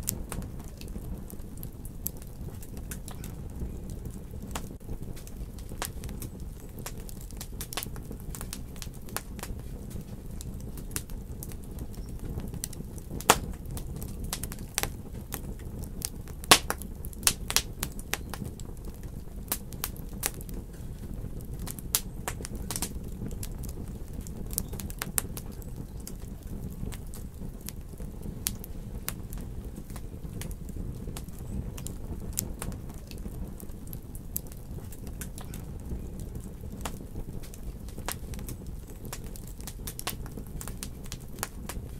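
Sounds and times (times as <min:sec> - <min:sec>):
low rumble of fire: 0:00.0 - 0:41.9
wood fire crackling and popping: 0:00.0 - 0:41.9.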